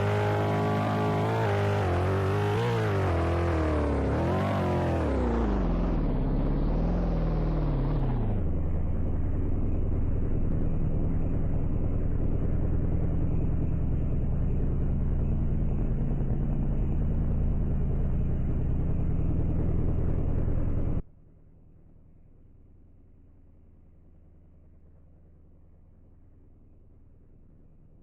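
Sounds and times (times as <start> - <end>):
vehicle engine low drone: 0.0 - 28.0.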